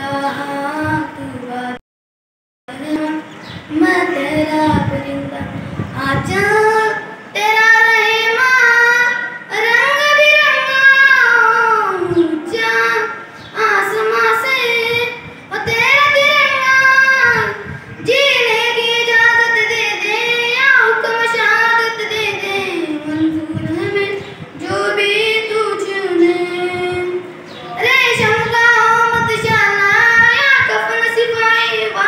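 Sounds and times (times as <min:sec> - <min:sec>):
boy singing into a microphone: 0:00.0 - 0:01.8, 0:02.7 - 0:32.0.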